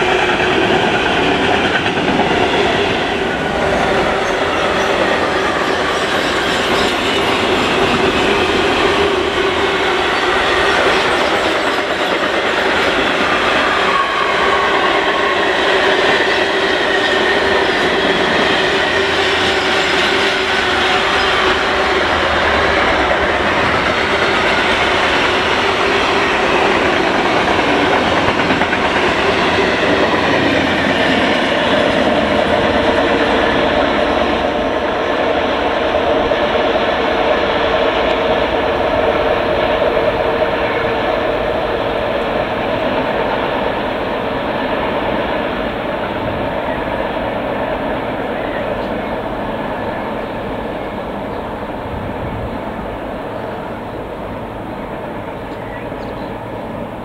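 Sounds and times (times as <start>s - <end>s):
high squealing of train wheels: 0.0s - 57.0s
train wheels rumbling and clattering: 0.0s - 57.0s.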